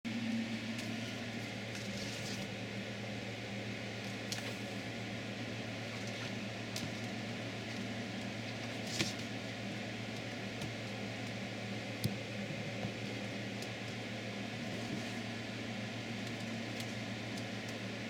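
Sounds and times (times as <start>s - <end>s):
room noise hum and hiss: 0.1s - 18.0s.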